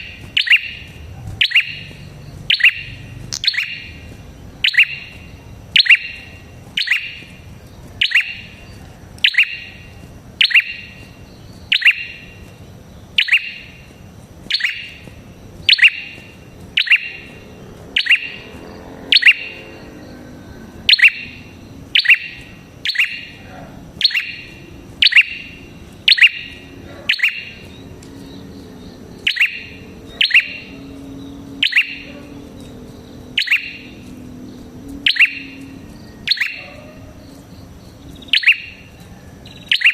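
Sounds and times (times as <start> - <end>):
bird sharp high chirp: 0.0 - 20.2, 20.8 - 39.9.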